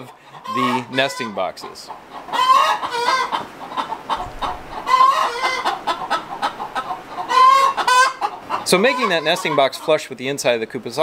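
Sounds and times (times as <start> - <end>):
chickens clucking and calling: 0.0 - 11.0.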